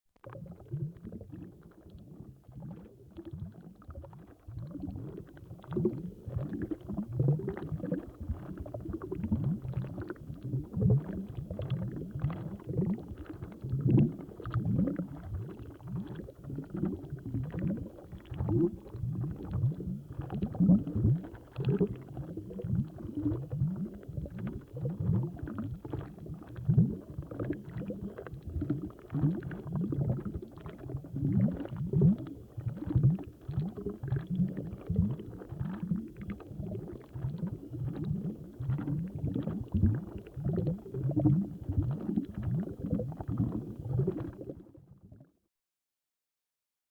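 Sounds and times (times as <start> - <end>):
air bubbles bursting underwater: 0.2 - 45.3.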